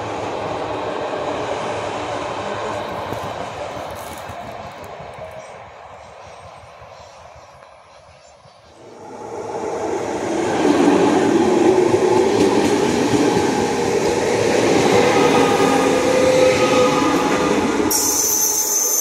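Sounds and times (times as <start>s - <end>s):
train passing on rails: 0.0s - 19.0s.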